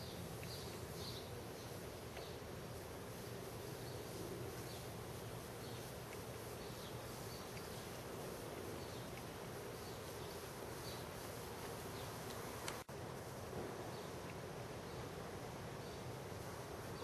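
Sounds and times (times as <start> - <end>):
steady city hum: 0.0 - 17.0.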